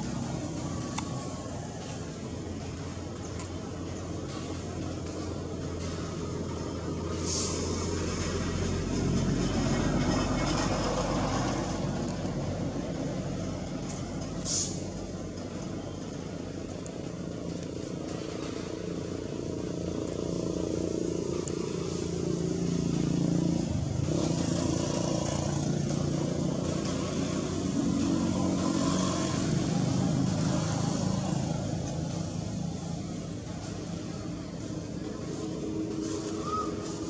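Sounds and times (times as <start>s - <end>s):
low rumble of motor vehicles: 0.0s - 37.0s.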